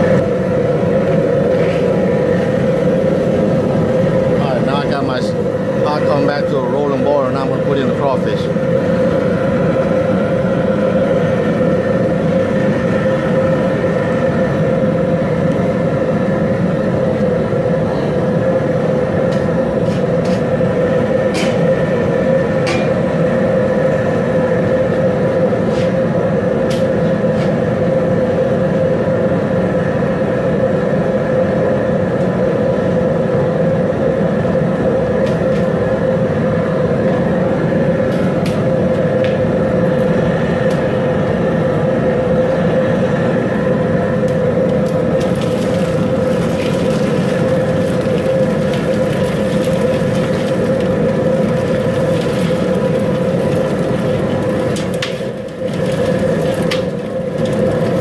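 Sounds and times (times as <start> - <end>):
water boiling in a pot: 0.0 - 58.0.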